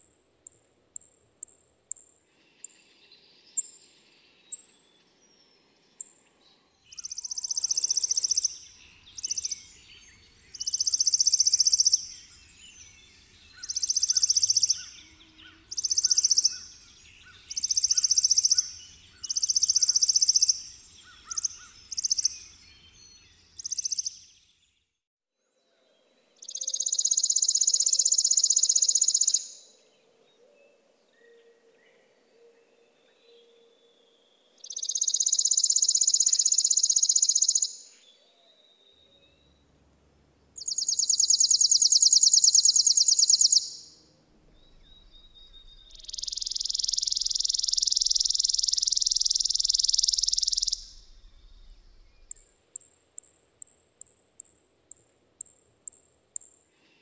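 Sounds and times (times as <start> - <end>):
sparrow dry rapid trills: 0.0 - 24.4, 26.4 - 29.8, 34.6 - 37.9, 40.6 - 44.1, 44.7 - 57.0.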